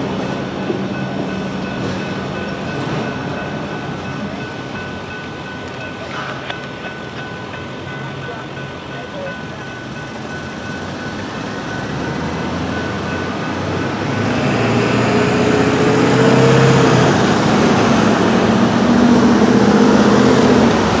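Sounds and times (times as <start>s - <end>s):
cars driving over railroad crossing: 0.0s - 21.0s.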